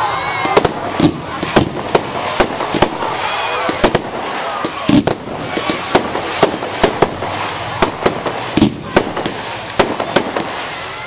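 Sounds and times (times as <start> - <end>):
fireworks bangs: 0.0 - 11.0
fireworks crackling hiss: 0.0 - 11.0.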